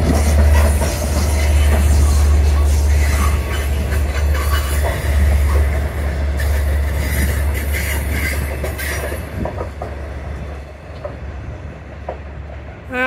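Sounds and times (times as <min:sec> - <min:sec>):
diesel train rumbling past: 0:00.0 - 0:13.0.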